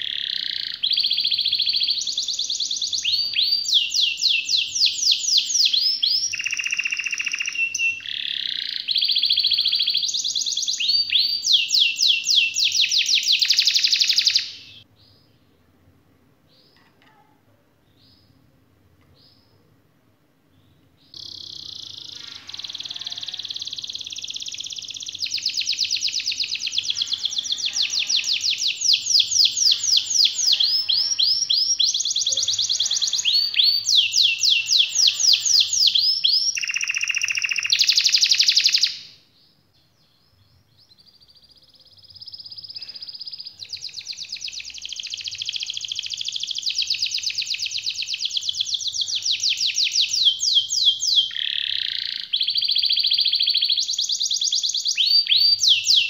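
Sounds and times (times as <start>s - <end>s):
canary singing trills: 0.0s - 15.4s, 20.6s - 56.0s.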